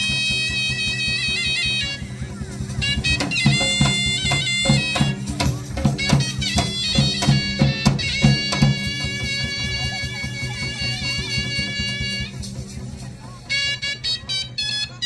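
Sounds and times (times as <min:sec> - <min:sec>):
drum strokes: 0:00.0 - 0:15.0
wind instrument melody: 0:00.0 - 0:15.0
steady drone: 0:01.9 - 0:15.0.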